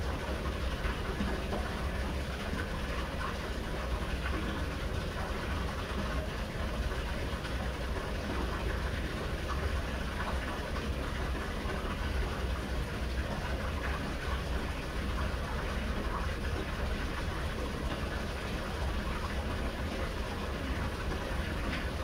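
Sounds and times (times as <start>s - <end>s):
water splashing on water wheel: 0.0s - 22.0s.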